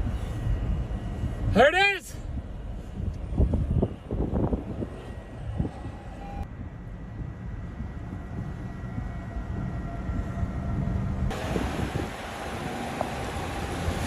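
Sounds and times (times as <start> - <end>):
low train-like rumble: 0.0 - 14.0.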